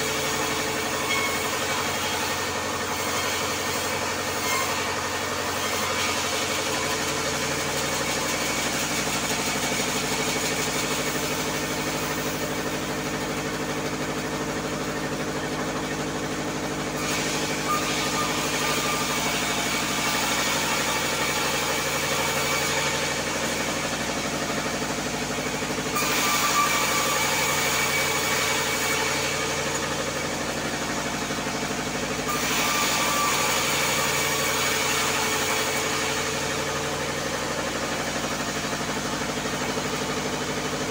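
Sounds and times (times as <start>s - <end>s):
saw blade cutting wood: 0.0s - 40.9s
sawmill machine drone: 0.0s - 40.9s.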